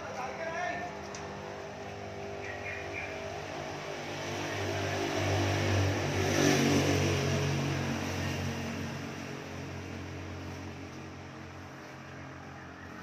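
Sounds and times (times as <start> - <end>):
vehicle engine low hum: 0.0 - 13.0.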